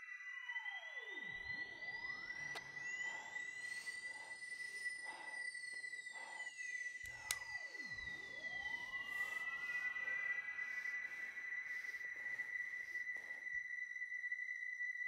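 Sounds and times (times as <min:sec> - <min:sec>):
soft electronic pulses: 0:00.0 - 0:15.0.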